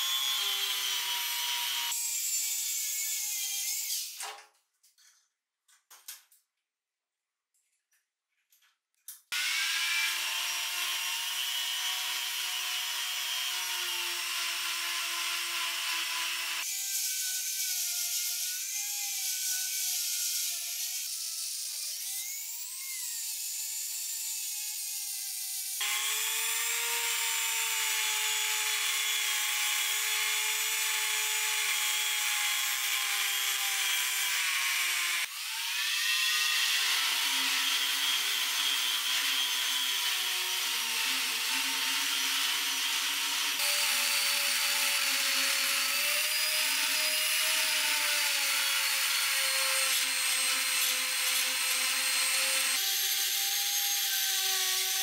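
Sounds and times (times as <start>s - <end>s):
rotary tool grinding metal: 9.3s - 55.0s.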